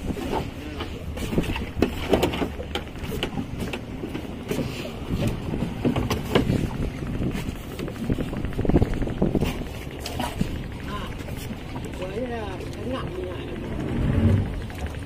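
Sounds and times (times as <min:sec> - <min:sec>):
speedboat motor: 0:00.0 - 0:15.0
wind on microphone: 0:00.0 - 0:15.0.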